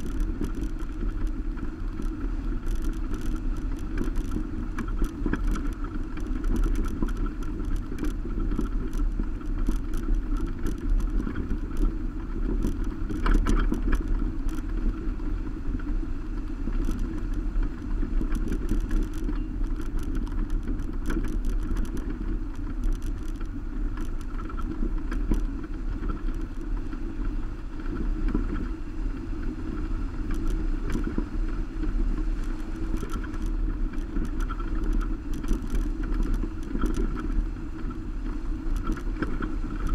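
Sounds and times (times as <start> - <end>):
rumble of tyres and wind: 0.0 - 39.9
sharp clicks and rattles: 0.0 - 39.9.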